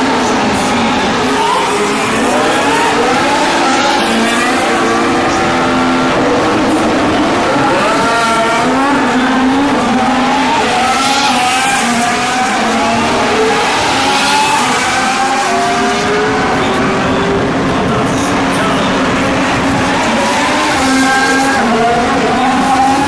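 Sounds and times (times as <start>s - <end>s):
racing car engines accelerating: 0.0s - 23.0s.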